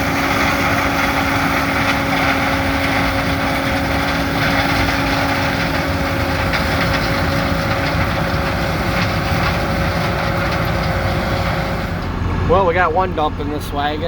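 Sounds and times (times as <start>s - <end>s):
combine harvester roar: 0.0s - 14.0s
steady machine whine: 0.0s - 14.0s.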